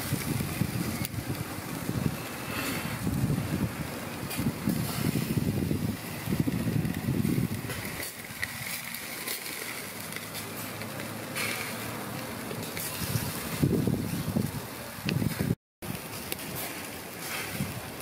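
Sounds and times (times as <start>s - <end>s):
wind buffeting microphone: 0.0s - 10.1s, 12.4s - 16.6s, 17.2s - 18.0s
meat sizzling on charcoal grill: 0.0s - 18.0s.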